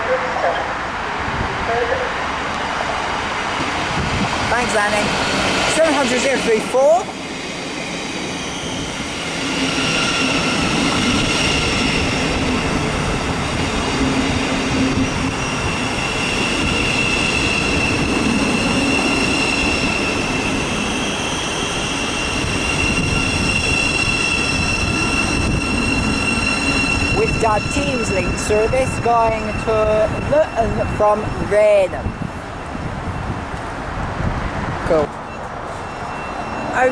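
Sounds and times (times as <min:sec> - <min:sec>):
high steady train whine: 0:00.0 - 0:36.9
train wheels rumbling: 0:01.2 - 0:36.9.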